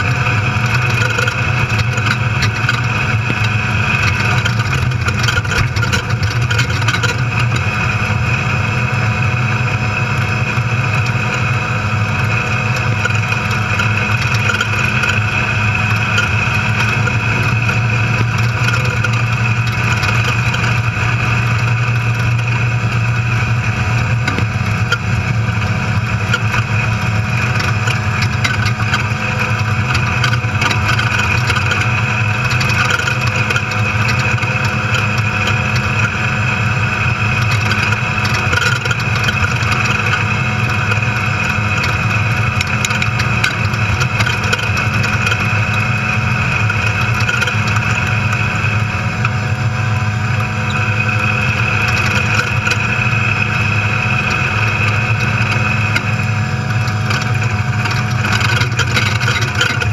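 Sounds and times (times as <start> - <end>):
knocks and rattles: 0.0 - 8.1, 10.0 - 49.4, 50.4 - 59.9
race car engine droning: 0.0 - 59.9
road noise: 0.0 - 59.9.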